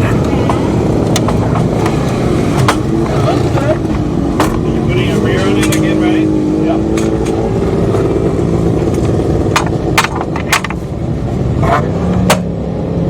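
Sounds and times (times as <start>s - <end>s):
heavy rushing noise: 0.0s - 13.0s
motorcycle engine running: 0.0s - 13.0s.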